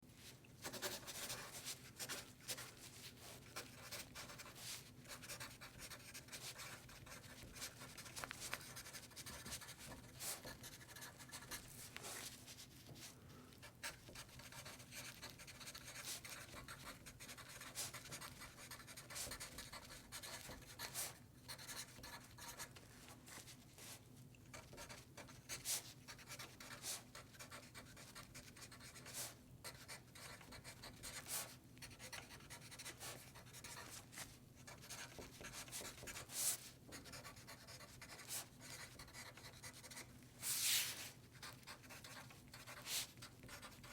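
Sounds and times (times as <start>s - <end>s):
pen scratching on paper: 0.6s - 2.7s, 3.4s - 12.2s, 13.7s - 22.7s, 24.6s - 34.0s, 34.7s - 43.9s.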